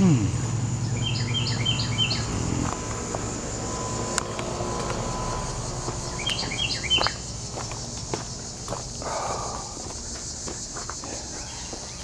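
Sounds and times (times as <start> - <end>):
high insect drone: 0.0 - 12.0
low motor hum: 0.0 - 12.0
songbird singing: 0.0 - 12.0.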